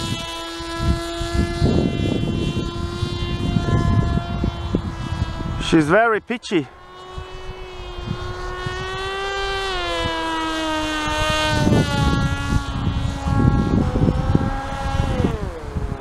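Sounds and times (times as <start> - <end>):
electric motor and propeller whine: 0.0 - 16.0
wind buffeting microphone: 0.0 - 16.0.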